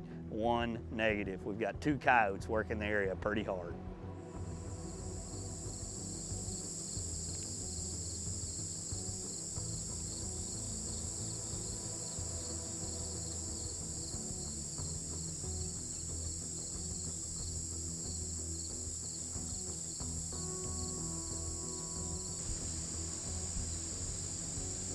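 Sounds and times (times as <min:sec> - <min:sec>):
soft background music: 0:00.0 - 0:24.9
insects buzzing: 0:04.3 - 0:24.9.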